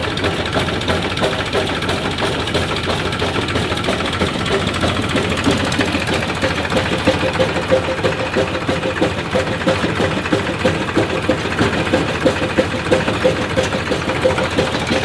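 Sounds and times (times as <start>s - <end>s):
chaff cutter rapid clatter: 0.0s - 15.0s
tractor diesel engine running: 0.0s - 15.0s.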